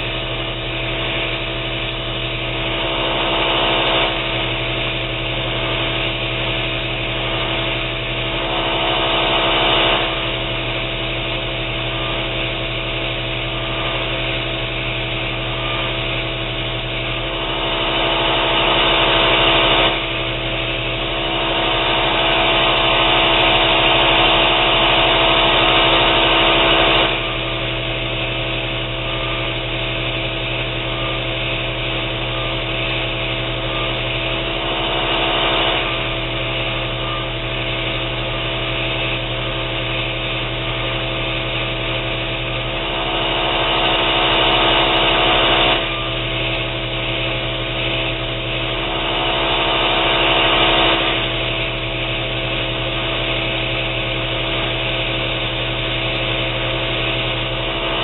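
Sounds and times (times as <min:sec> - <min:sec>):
belt grinder motor hum: 0:00.0 - 0:54.0.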